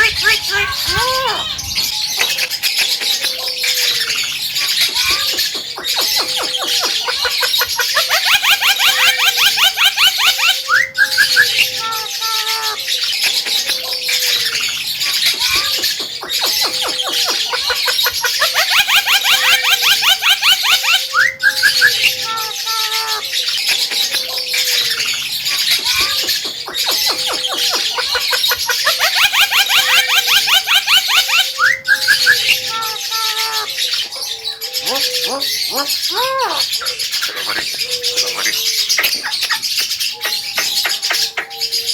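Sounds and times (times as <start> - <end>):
bird singing loudly: 0.0 - 41.9.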